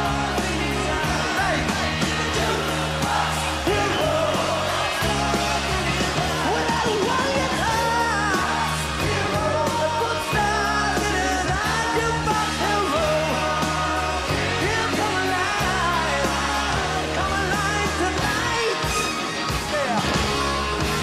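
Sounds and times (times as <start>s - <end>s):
rock band with man singing: 0.0s - 21.0s.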